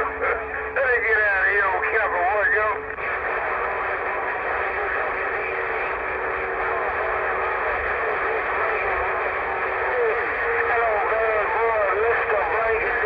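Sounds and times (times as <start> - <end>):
faint garbled radio voices: 0.0 - 13.0
radio static hiss: 0.0 - 13.0.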